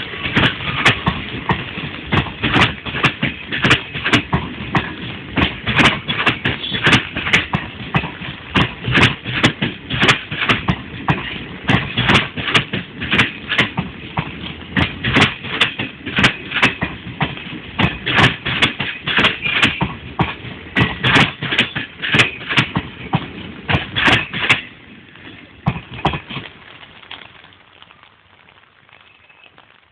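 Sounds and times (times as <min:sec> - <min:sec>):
train wheels clattering over rail joints: 0:00.0 - 0:27.4.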